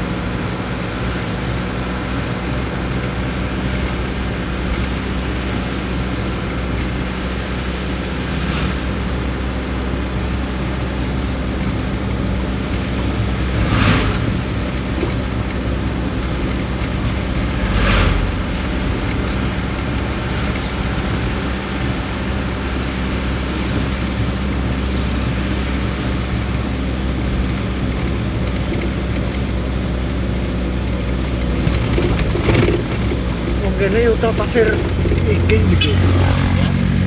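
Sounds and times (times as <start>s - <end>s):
truck engine humming: 0.0s - 37.0s
rushing noise: 1.7s - 37.0s.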